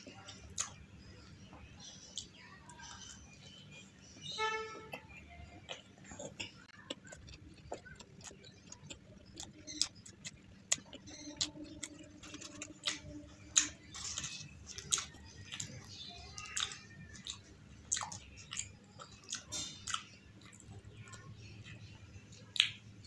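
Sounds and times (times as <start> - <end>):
person chewing food: 0.0 - 0.8, 4.7 - 22.9.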